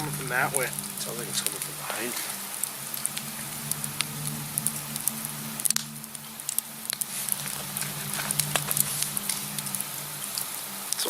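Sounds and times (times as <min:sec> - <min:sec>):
campfire crackling and popping: 0:00.0 - 0:11.0
faint low hum: 0:00.0 - 0:11.0.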